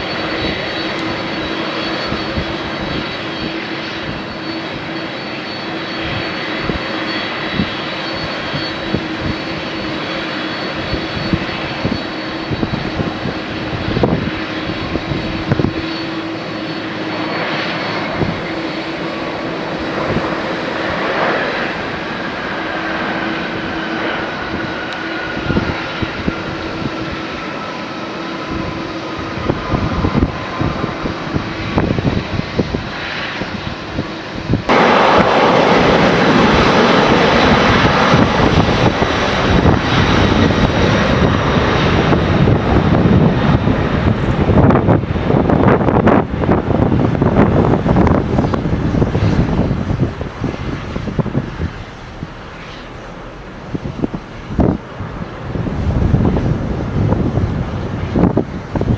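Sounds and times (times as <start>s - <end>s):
jet engines roaring with whine: 0.0s - 58.9s
wind buffeting microphone: 0.0s - 58.9s.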